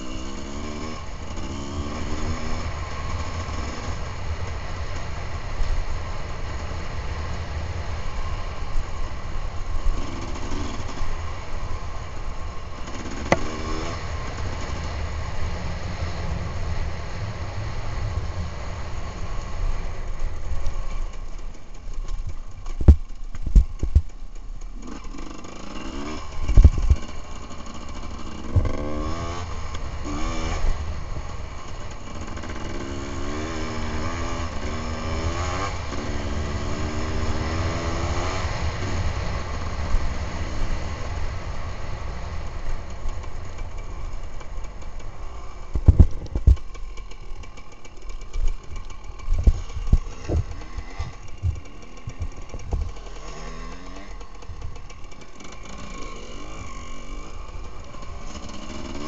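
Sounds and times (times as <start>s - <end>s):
motorcycle engine under throttle: 0.0s - 59.0s.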